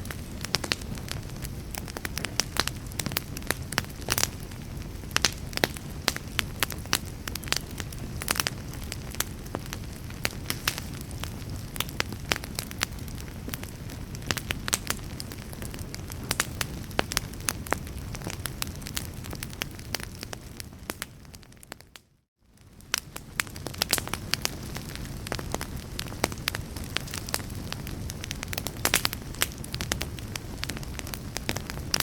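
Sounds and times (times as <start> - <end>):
burning wood crackling and popping: 0.0 - 32.0
fire rumbling: 0.0 - 32.0.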